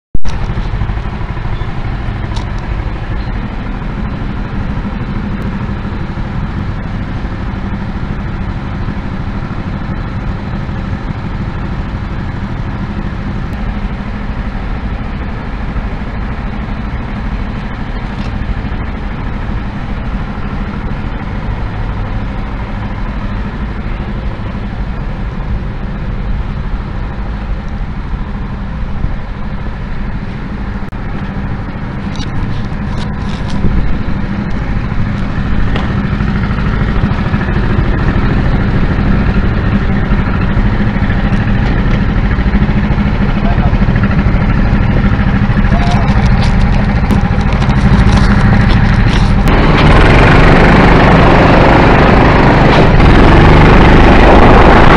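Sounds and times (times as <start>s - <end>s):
go-kart engines running: 0.3s - 54.9s.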